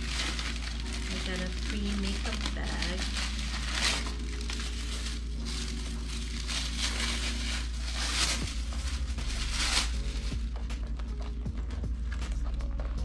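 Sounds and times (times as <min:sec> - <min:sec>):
packaging crinkling: 0:00.0 - 0:11.4
steady low hum: 0:00.0 - 0:13.0.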